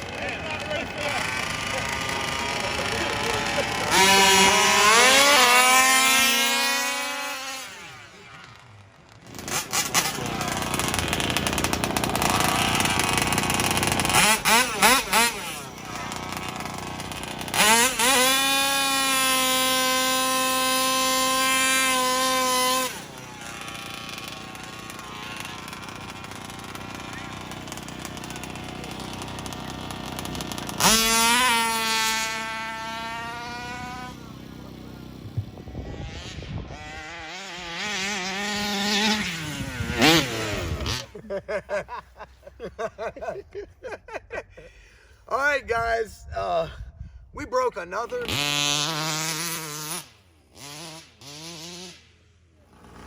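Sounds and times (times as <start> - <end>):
small two-stroke engine revving: 0.0 - 44.8, 47.9 - 53.0.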